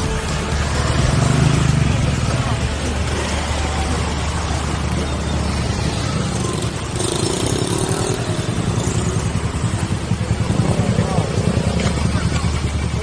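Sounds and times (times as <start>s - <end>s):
motorcycle and scooter engines: 0.0s - 13.0s
traffic din: 0.0s - 13.0s.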